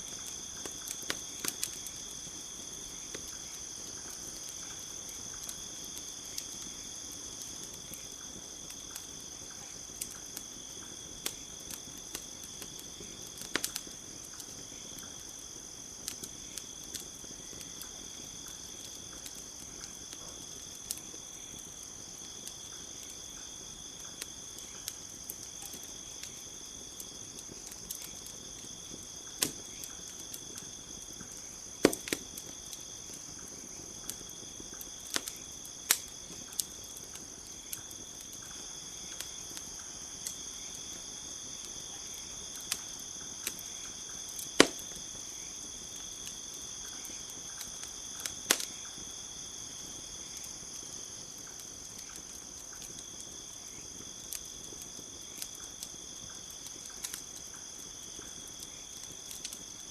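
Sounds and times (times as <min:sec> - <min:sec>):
campfire crackling and popping: 0:00.0 - 0:59.9
night insects chirring: 0:00.0 - 0:59.9.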